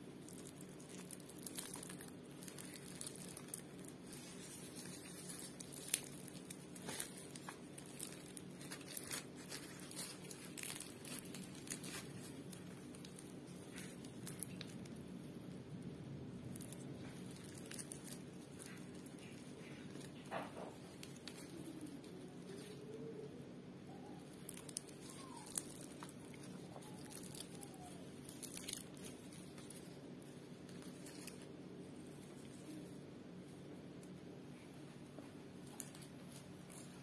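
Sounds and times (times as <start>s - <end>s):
faint low hum: 0.0s - 37.0s
flatbread crackling: 0.0s - 37.0s.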